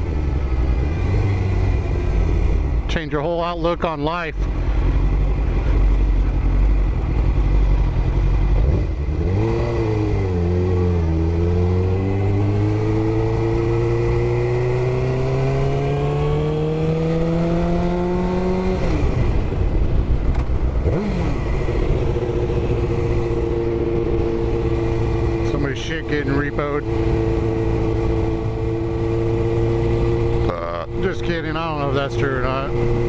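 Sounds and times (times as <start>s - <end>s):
motorcycle engine accelerating: 0.0s - 3.1s, 4.4s - 33.0s.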